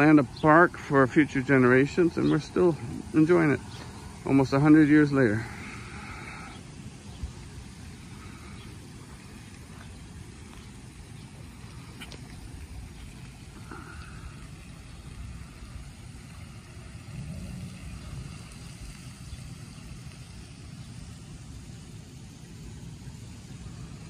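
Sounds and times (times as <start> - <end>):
faint hiss: 0.0 - 24.0
low outdoor rumble: 0.0 - 24.0.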